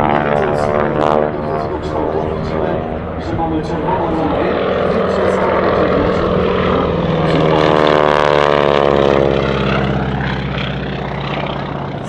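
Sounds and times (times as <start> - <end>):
biplane engine and propeller passing: 0.0 - 12.0
steady low drone: 0.0 - 12.0.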